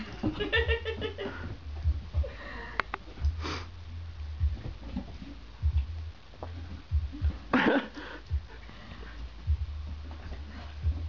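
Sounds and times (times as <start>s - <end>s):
low thumps: 0.0s - 11.0s.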